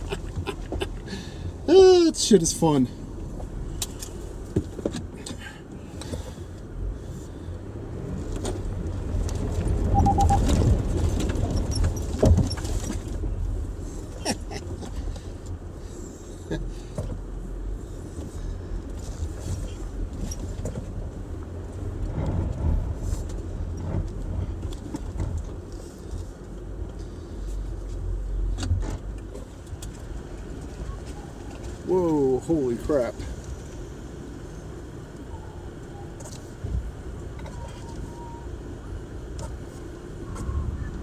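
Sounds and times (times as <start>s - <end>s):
engine and tyres rumbling: 0.0s - 41.0s.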